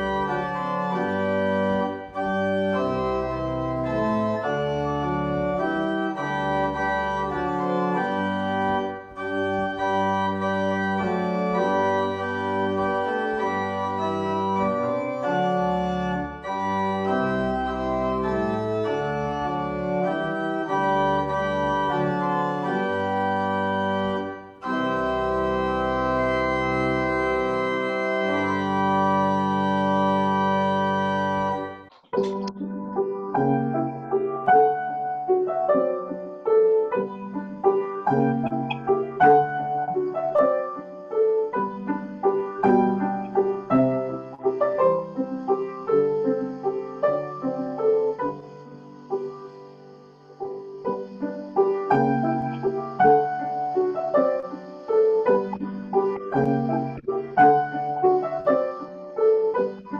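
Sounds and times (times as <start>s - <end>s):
organ chords: 0.0s - 59.9s.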